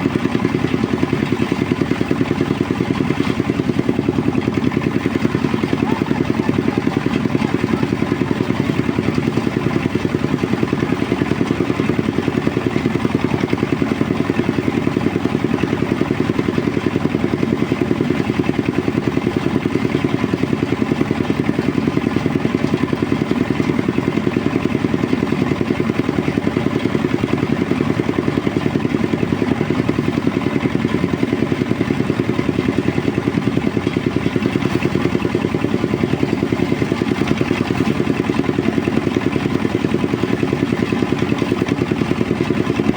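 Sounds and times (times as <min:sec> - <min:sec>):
threshing machine engine running: 0:00.0 - 0:42.9.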